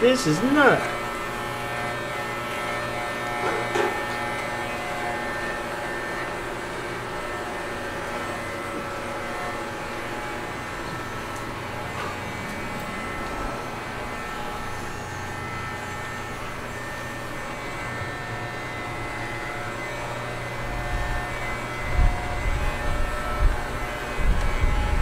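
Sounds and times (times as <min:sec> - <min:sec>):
electric clippers humming: 0:00.0 - 0:25.0.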